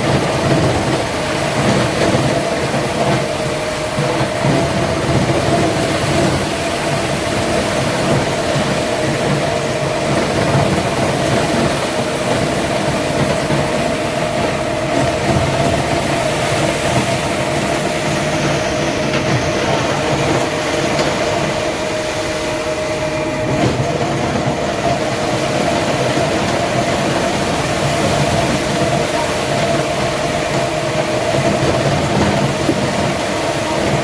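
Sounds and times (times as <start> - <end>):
constant mechanical whine: 0.0 - 34.0
heavy machinery droning: 0.0 - 34.0.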